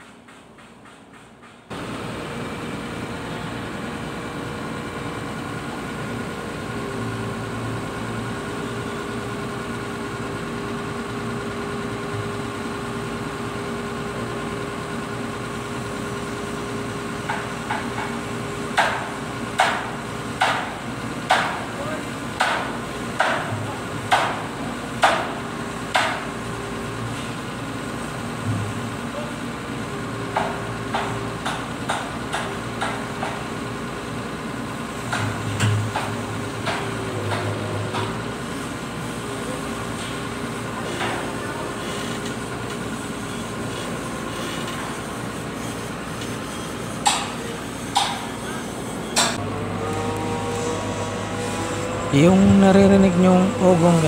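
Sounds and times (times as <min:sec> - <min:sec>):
construction site noise: 0:00.0 - 0:54.0
crane engine droning: 0:01.7 - 0:54.0.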